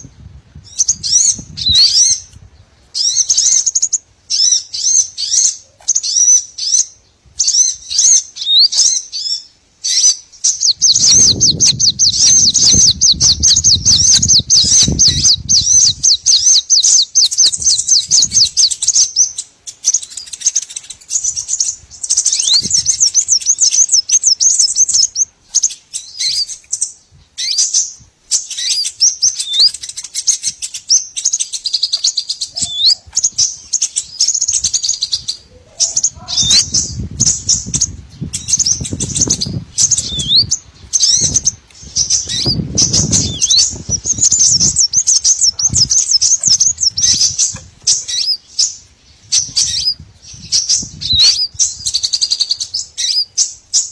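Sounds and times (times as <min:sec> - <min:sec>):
songbirds chirping and twittering: 0:00.0 - 0:53.9.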